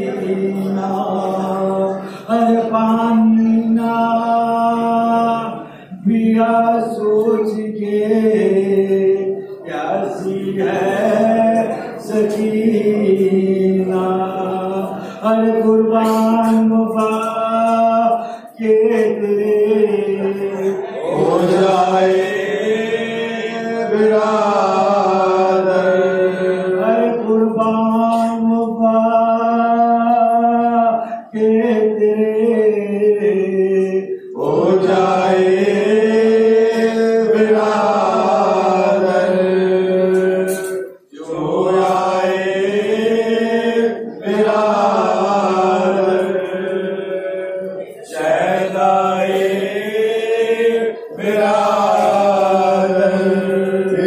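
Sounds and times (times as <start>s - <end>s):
men chanting a lament: 0.0s - 54.0s.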